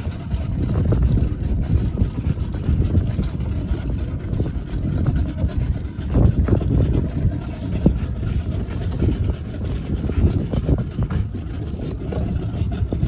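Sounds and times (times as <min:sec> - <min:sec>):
motorboat engine rumbling: 0:00.0 - 0:13.0.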